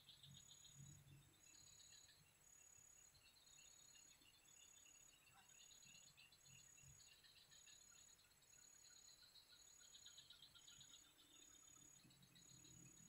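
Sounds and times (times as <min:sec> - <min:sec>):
insects pulsing chirps: 0:00.0 - 0:13.0.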